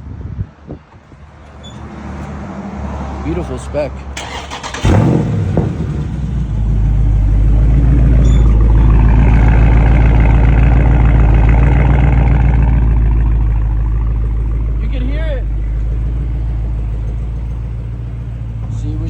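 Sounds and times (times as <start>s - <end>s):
car engine starting and idling: 1.0s - 19.0s.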